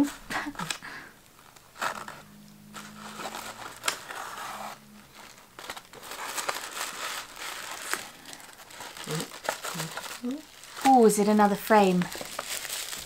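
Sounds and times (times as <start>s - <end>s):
paper and bubble-wrap crinkling: 0.0s - 13.0s
sharp crackles: 0.6s - 13.0s.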